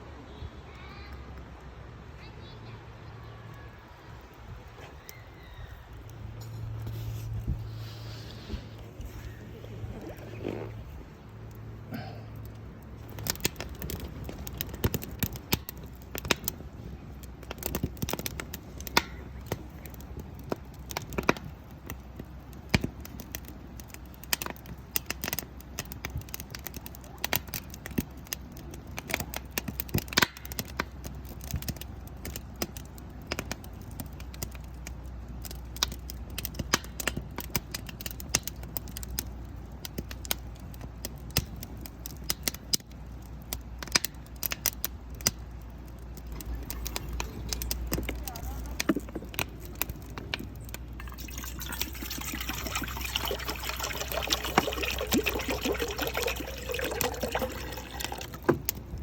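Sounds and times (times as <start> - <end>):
low steady rumble: 1.2 - 27.1, 37.2 - 59.0
campfire crackling and popping: 2.9 - 59.0.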